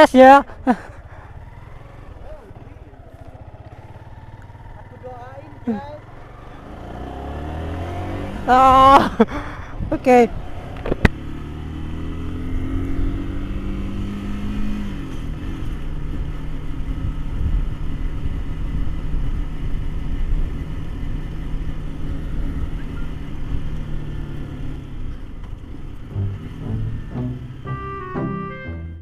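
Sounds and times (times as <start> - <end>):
motorcycle engine accelerating: 0.4 - 29.0.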